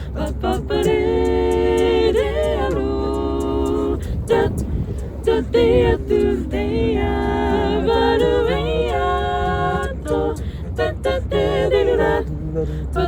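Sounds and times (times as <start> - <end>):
a cappella vocal harmony: 0.0 - 13.0.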